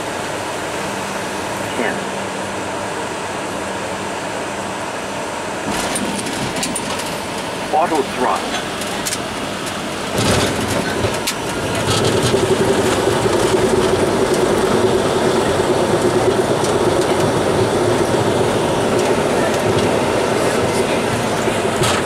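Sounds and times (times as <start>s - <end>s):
jet engine rush and rolling rumble: 0.0s - 22.0s.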